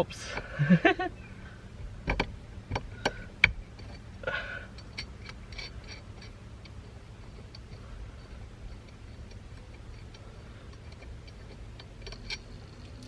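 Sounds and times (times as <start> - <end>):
metallic parts clicking: 2.0 - 13.0.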